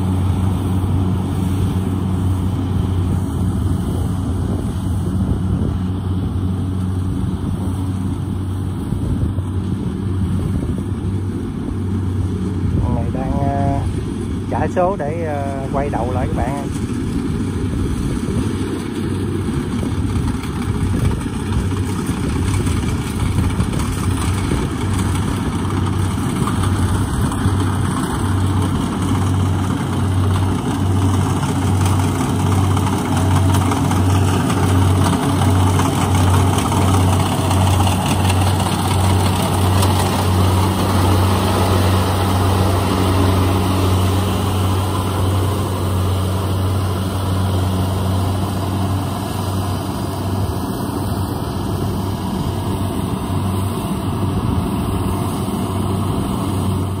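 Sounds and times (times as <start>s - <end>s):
diesel engine throbbing hum: 0.0s - 57.0s.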